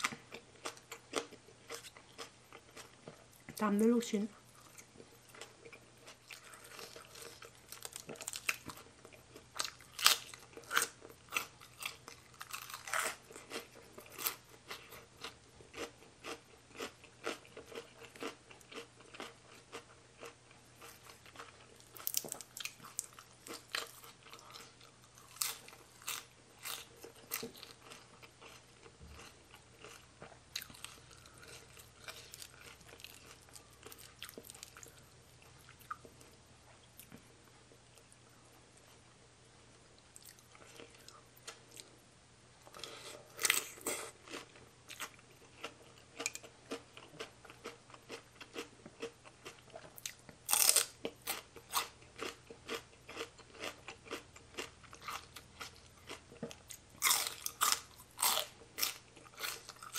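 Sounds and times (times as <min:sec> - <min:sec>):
person chewing and crunching food: 0:00.0 - 0:39.1, 0:39.9 - 0:42.0, 0:42.6 - 0:59.9.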